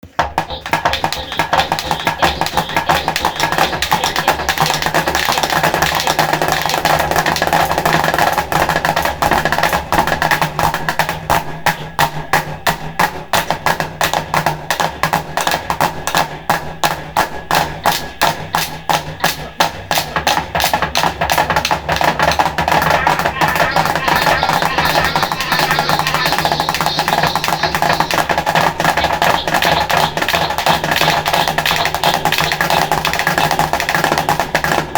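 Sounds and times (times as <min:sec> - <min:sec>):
clacking percussion strokes: 0:00.0 - 0:16.2, 0:16.8 - 0:34.9
drums: 0:00.0 - 0:34.9.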